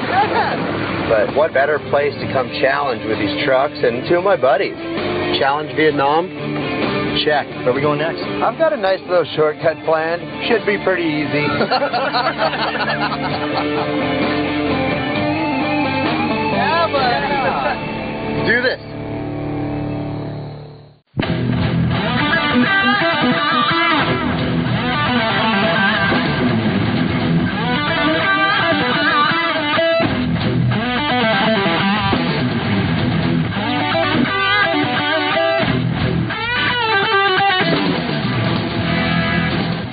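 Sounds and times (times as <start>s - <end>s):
rock music: 0.0s - 39.9s.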